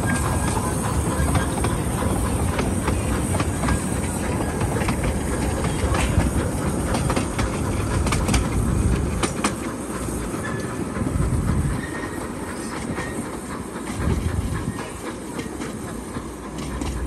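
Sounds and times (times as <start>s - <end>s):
miniature train rumbling: 0.0s - 17.0s
sharp clicks of a train: 0.0s - 17.0s.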